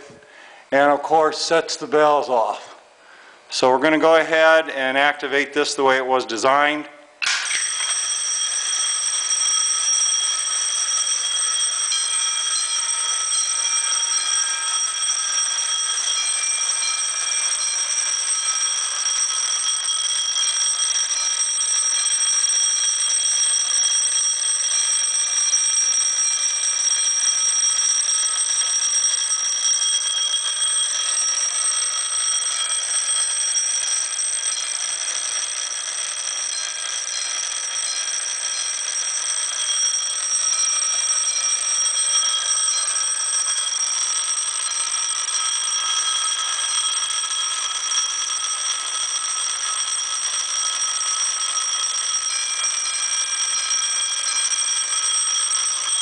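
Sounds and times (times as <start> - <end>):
fire alarm bells ringing: 3.5 - 56.0
control panel trouble bell: 7.2 - 56.0.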